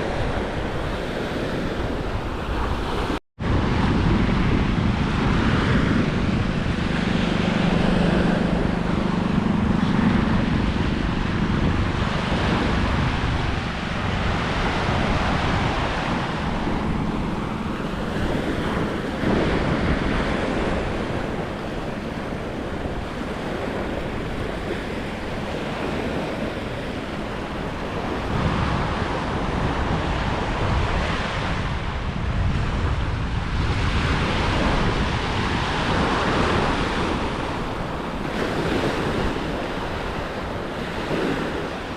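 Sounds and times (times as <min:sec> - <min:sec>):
ocean surf washing on shore: 0:00.0 - 0:41.9
wind buffeting microphone: 0:00.0 - 0:41.9.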